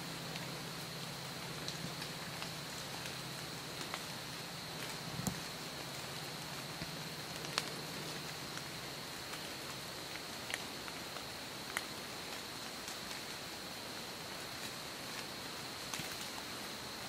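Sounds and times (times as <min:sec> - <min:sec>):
steady hiss with high tone: 0:00.0 - 0:17.0.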